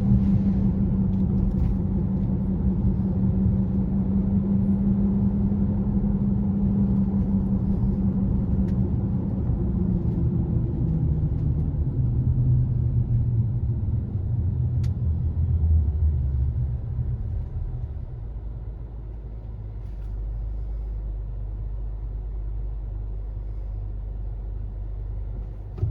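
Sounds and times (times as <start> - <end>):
car road hum: 0.0 - 25.9
low rumble: 0.0 - 25.9.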